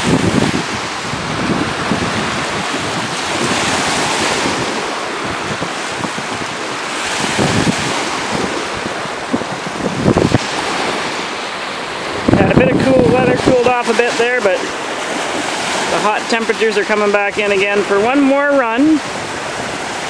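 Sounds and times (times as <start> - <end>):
waves breaking on beach: 0.0 - 20.0
wind buffeting microphone: 0.0 - 20.0.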